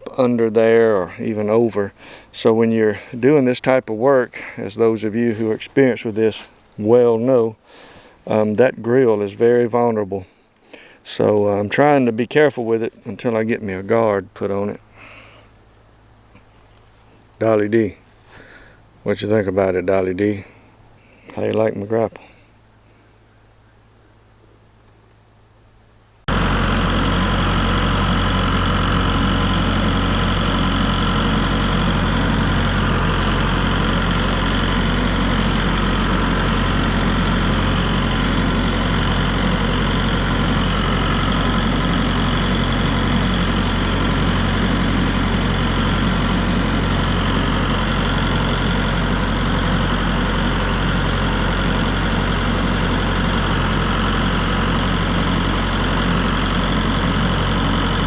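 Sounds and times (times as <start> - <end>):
tractor diesel engine running: 0.0 - 22.3, 26.3 - 58.0.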